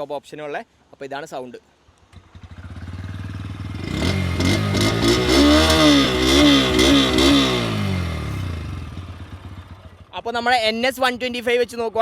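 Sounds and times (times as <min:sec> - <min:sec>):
motorcycle engine idling and revving: 0:01.9 - 0:12.0.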